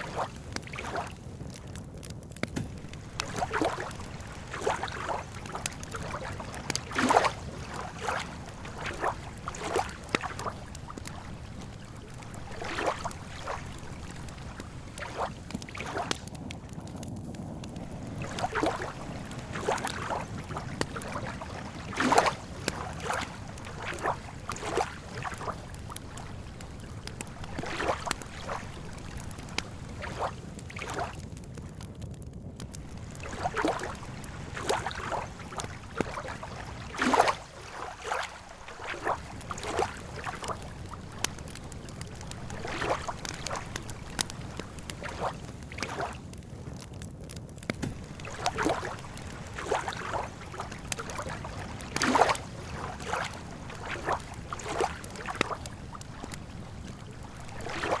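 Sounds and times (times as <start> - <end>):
campfire crackling and popping: 0.0 - 58.0
low steady water rush: 0.0 - 58.0.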